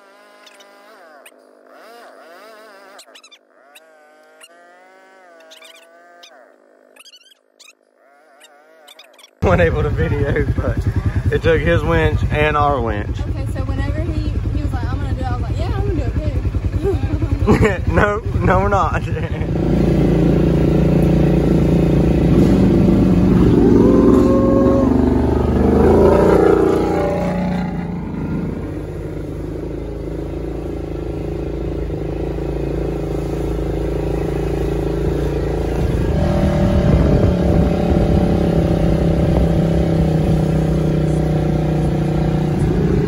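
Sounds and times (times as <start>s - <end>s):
atv engine under throttle: 0.0s - 43.0s.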